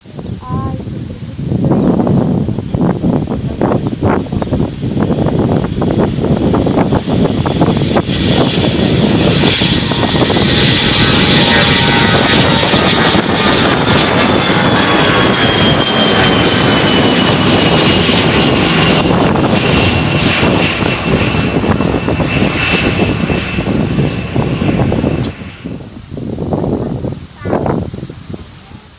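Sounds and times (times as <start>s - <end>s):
jet engines roaring with whine: 0.0s - 28.9s.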